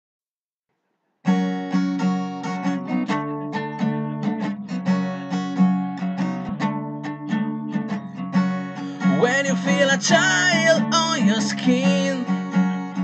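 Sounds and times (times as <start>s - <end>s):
acoustic guitar picking and strumming: 1.2s - 13.0s.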